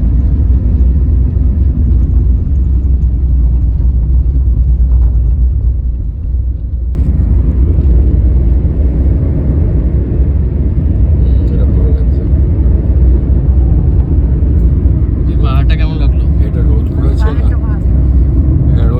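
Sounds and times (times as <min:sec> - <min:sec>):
vehicle rumbling from inside: 0:00.0 - 0:18.9
wind buffeting microphone: 0:00.0 - 0:18.9.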